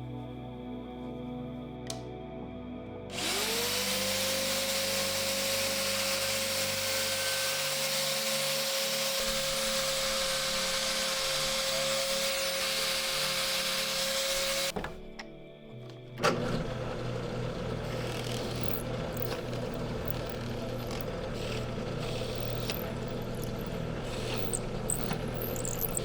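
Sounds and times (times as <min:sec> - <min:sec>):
quiet background music: 0:00.0 - 0:26.0
hissing cutting noise: 0:03.1 - 0:15.3, 0:16.2 - 0:26.0
power tool motor whine: 0:03.1 - 0:15.4, 0:16.0 - 0:26.0.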